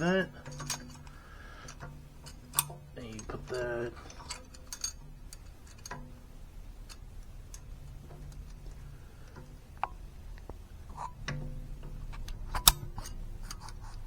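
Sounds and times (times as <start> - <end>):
metal parts clicking and tapping: 0.0 - 14.0.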